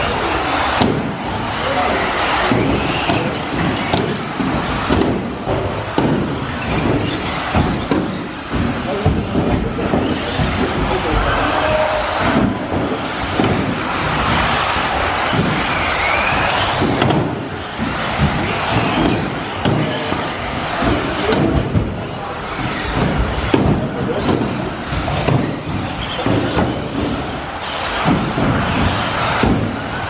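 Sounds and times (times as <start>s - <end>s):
electric motors whining: 0.0s - 30.0s
tyre and chassis noise: 0.0s - 30.0s.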